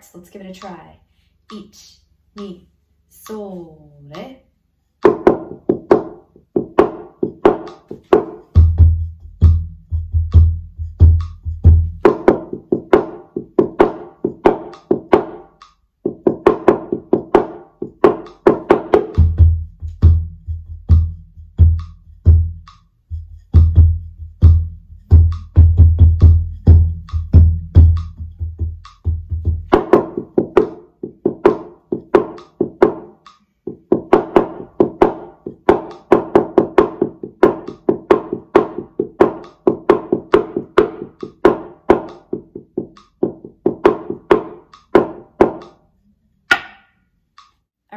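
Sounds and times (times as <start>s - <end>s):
rapid high-pitched drum strikes: 5.0s - 45.8s, 46.5s - 47.5s.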